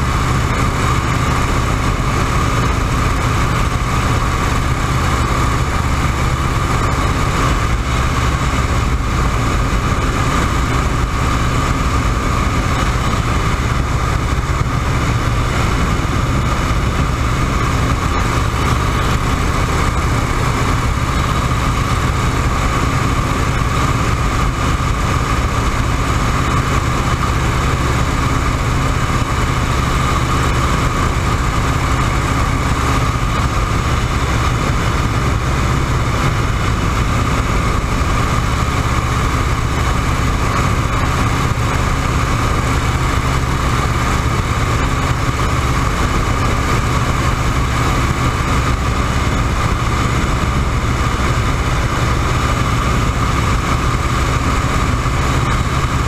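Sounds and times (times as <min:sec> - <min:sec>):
biplane engine droning: 0:00.0 - 0:56.0.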